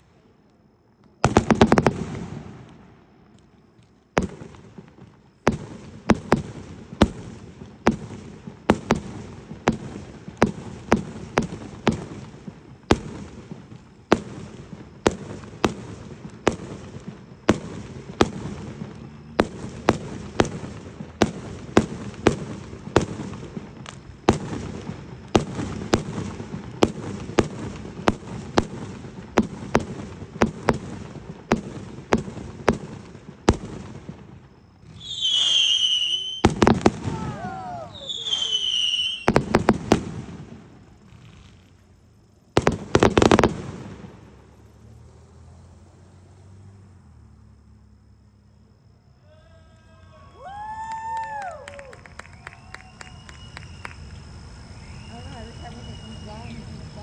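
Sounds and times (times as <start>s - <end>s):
fireworks bangs: 0.0s - 46.4s, 49.2s - 57.0s.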